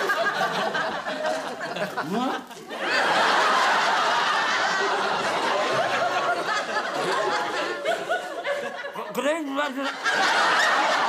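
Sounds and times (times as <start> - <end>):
audience laughing: 0.0 - 11.0.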